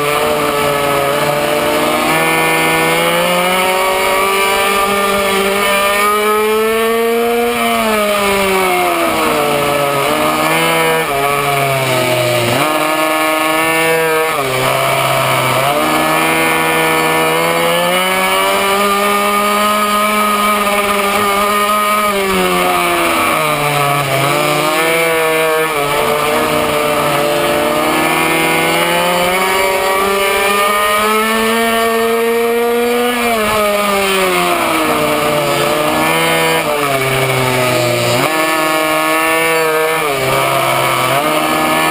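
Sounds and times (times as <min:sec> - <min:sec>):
small two-stroke engine revving: 0:00.0 - 0:41.9.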